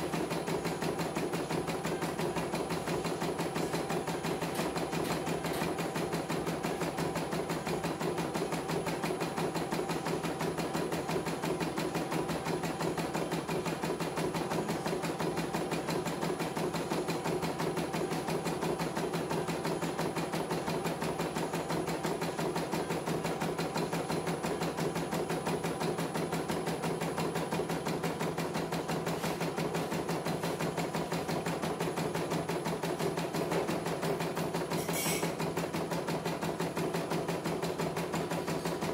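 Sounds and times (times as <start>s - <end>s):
embroidery machine needle stitching: 0.0s - 38.9s.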